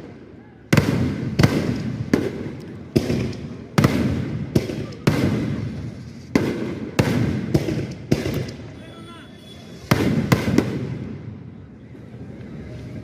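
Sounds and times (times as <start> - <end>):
fireworks bangs with rumbling echo: 0.0 - 8.9, 9.5 - 11.5.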